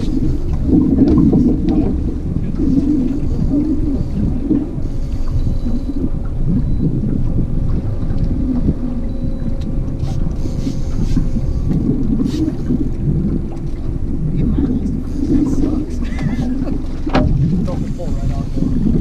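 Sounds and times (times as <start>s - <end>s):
boat motor humming: 0.0s - 19.0s
wind buffeting the microphone: 0.0s - 19.0s.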